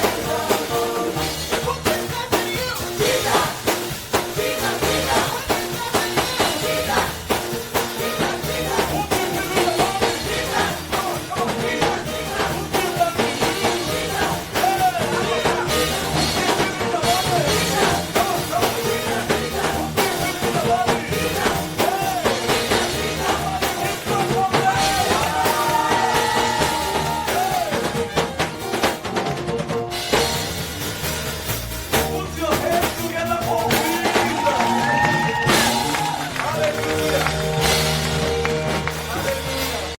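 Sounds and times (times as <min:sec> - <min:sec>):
band with drum kit: 0:00.0 - 0:39.9.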